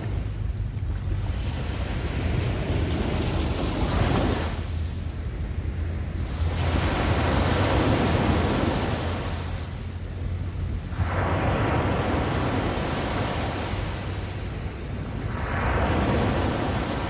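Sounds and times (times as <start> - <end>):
low rumble: 0.0 - 17.0
sea waves breaking on shore: 0.0 - 17.0.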